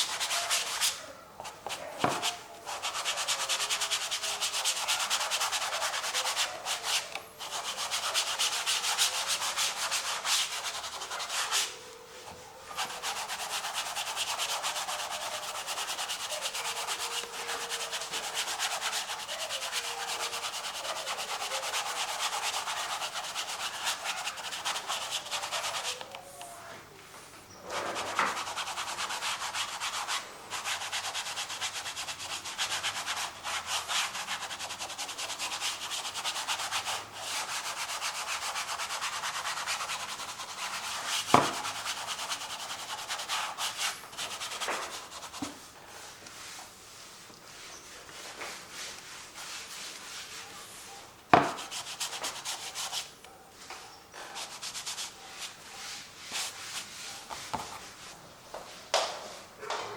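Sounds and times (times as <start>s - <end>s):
paint tool scraping canvas: 0.0s - 26.2s, 27.6s - 53.1s, 54.3s - 58.2s.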